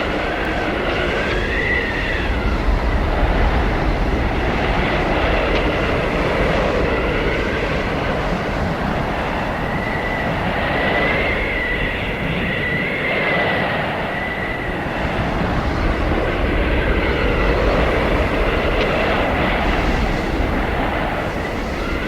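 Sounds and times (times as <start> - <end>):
blizzard wind rumbling: 0.0 - 22.0
wavering wind whistle: 0.0 - 22.0.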